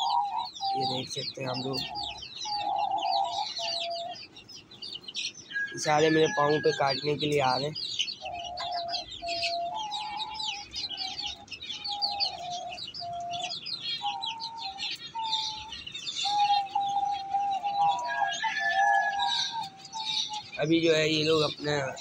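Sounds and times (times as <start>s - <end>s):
chicks cheeping: 0.0s - 22.0s.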